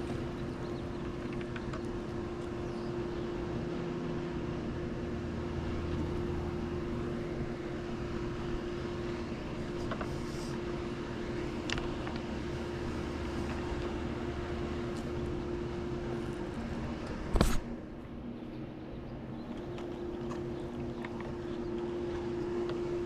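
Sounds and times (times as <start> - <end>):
pool pump motor humming: 0.0 - 23.0.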